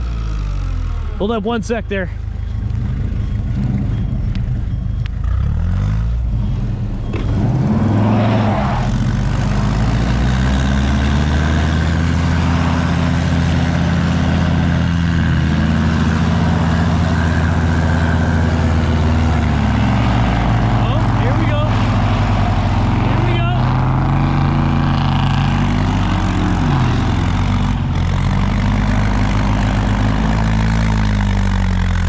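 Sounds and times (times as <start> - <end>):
heavy machine engine revving: 2.6 - 32.0.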